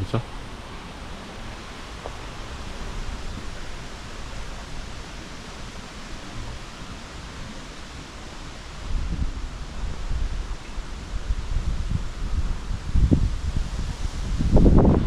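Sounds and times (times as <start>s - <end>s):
stream running water: 0.0s - 15.0s
wind buffeting microphone: 0.0s - 15.0s
wind through trees: 0.0s - 15.0s.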